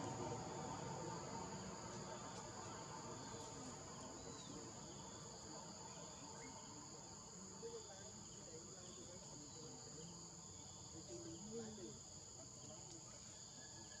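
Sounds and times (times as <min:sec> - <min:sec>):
outdoor ambient hiss: 0:00.0 - 0:13.7
insects chorus: 0:00.0 - 0:14.0.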